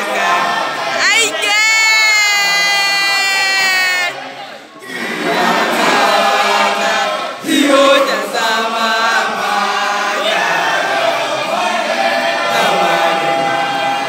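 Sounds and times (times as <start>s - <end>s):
male choir singing in harmony: 0.0s - 1.5s, 3.9s - 14.0s.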